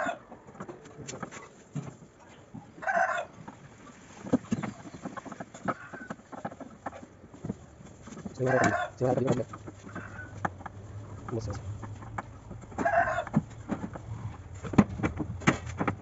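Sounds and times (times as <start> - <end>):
chicken calling: 0.0 - 1.6, 2.2 - 14.4.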